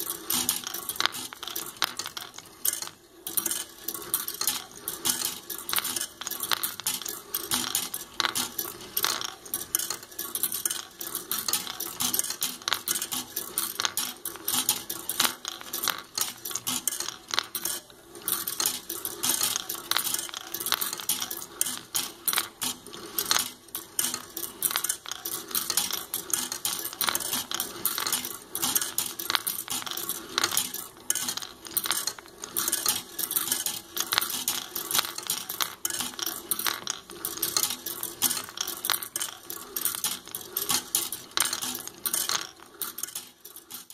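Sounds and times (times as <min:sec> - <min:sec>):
marbles clicking on metal tracks: 0:00.0 - 0:43.9.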